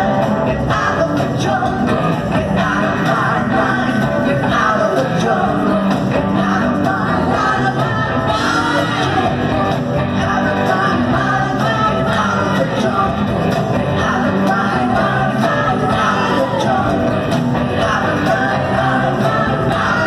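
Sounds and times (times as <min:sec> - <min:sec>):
bass notes: 0:00.0 - 0:20.0
drums: 0:00.0 - 0:20.0
electric guitar: 0:00.0 - 0:20.0
person singing: 0:00.0 - 0:20.0.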